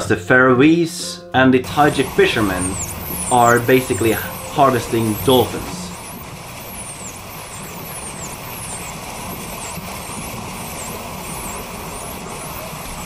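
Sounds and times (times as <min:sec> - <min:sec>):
small boat motor running: 0:01.7 - 0:13.0
faint high whistles: 0:01.8 - 0:13.0.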